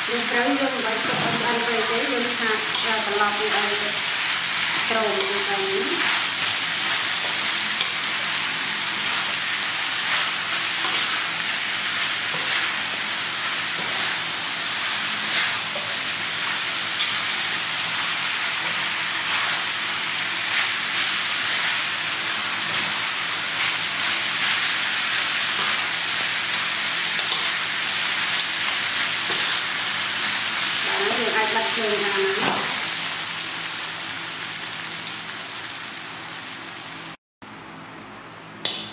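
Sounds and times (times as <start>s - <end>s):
food sizzling in a pan: 0.0s - 37.2s.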